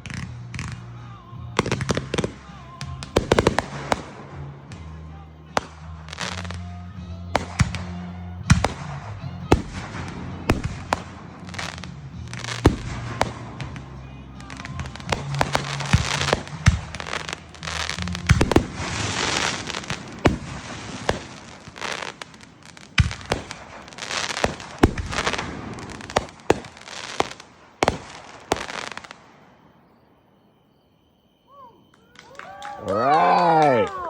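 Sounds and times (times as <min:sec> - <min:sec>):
fireworks bangs: 0:00.0 - 0:30.1
fireworks crackle: 0:00.0 - 0:30.3, 0:31.6 - 0:34.0.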